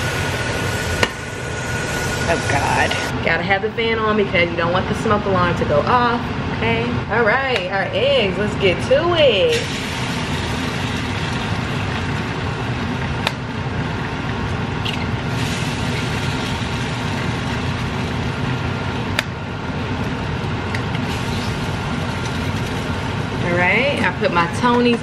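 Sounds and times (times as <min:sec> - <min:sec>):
range hood fan whirring: 0:00.0 - 0:25.0.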